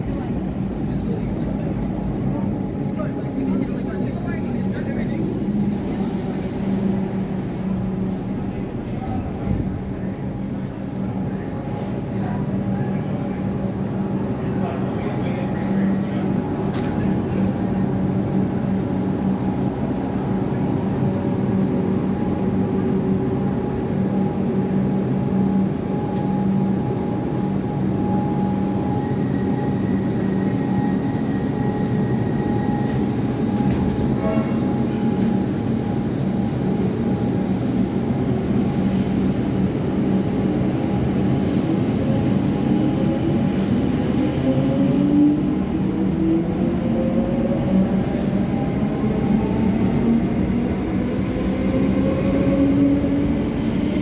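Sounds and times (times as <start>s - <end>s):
electric train hum: 0.0s - 54.0s.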